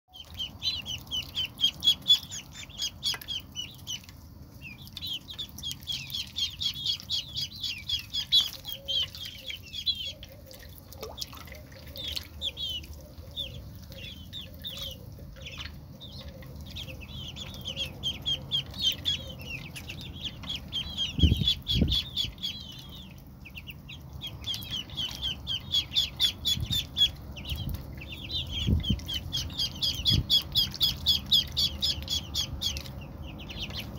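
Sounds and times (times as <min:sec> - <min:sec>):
ducklings peeping: 0:00.1 - 0:33.9.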